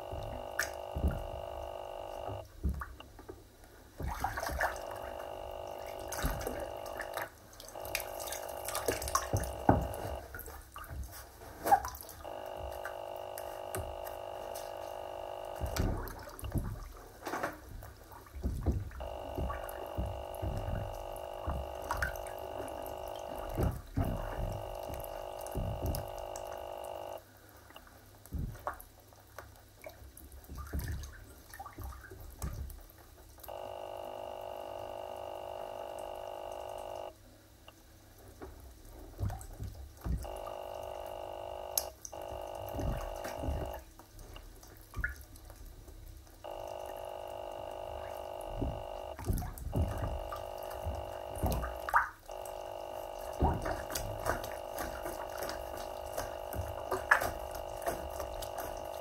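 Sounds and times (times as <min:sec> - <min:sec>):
steady multi-tone hum: 0:00.0 - 0:28.7, 0:33.4 - 0:37.8, 0:39.2 - 0:44.6, 0:46.4 - 0:59.0
feet sloshing in bath water: 0:03.9 - 0:27.2, 0:28.2 - 0:32.9, 0:39.0 - 0:59.0.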